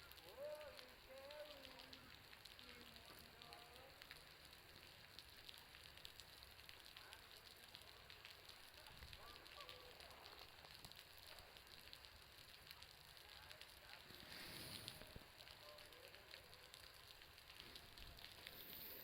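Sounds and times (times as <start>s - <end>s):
bonfire crackling: 0.0s - 19.0s
meltwater dripping from roof: 0.0s - 19.0s.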